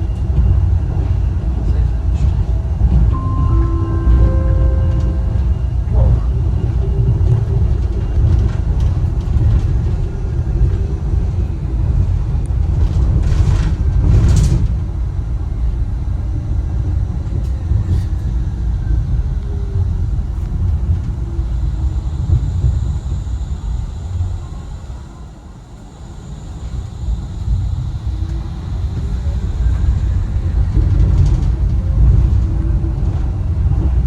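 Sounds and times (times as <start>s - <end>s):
suspension railway car rumbling: 0.0s - 34.0s.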